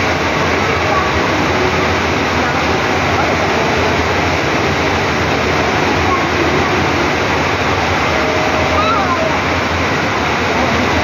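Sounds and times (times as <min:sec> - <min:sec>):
faint voices: 0:00.0 - 0:11.0
rushing spraying water: 0:00.0 - 0:11.0.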